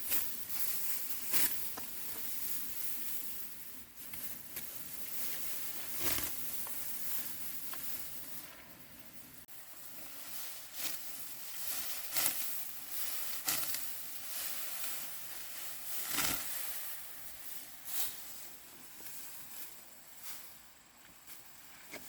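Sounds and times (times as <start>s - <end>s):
rice stalks rustling: 0.0s - 21.9s.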